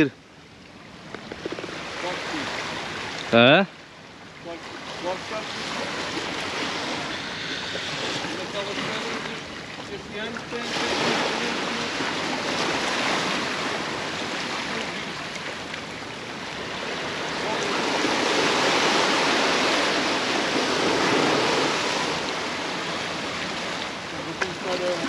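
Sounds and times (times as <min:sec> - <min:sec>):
sea surf breaking on beach: 0:01.4 - 0:03.6, 0:04.2 - 0:25.0.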